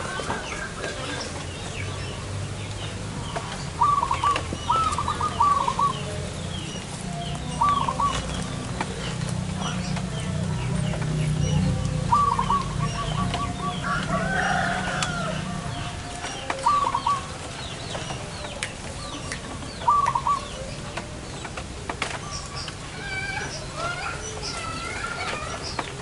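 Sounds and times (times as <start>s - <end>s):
doves cooing trill: 0.0s - 26.0s
small birds chirping: 0.0s - 26.0s.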